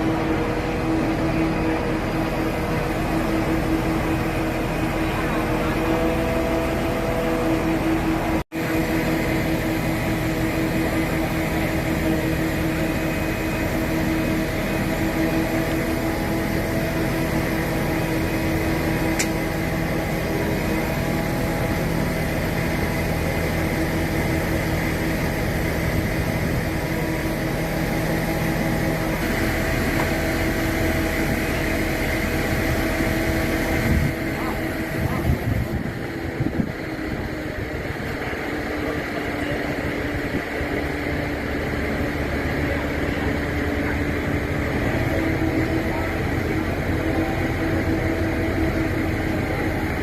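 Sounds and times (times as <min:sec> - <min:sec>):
large engine droning: 0:00.0 - 0:50.0.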